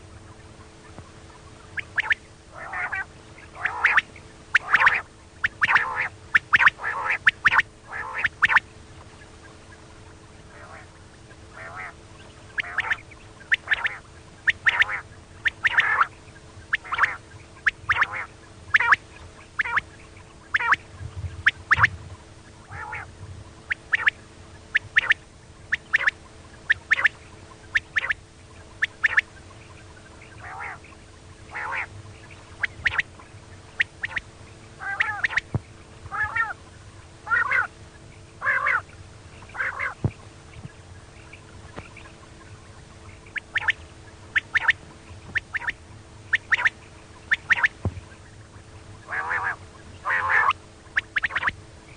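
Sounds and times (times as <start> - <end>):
faint steady hum: 0.0 - 51.9
quail giving sharp calls: 0.0 - 51.9.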